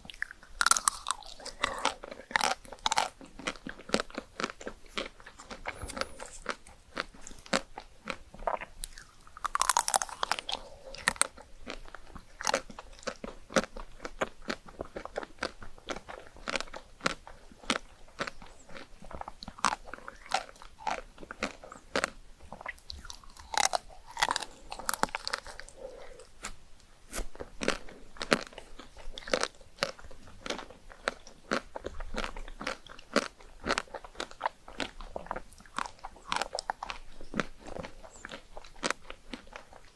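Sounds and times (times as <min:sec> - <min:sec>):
person chewing ice cream: 0:00.0 - 0:39.9.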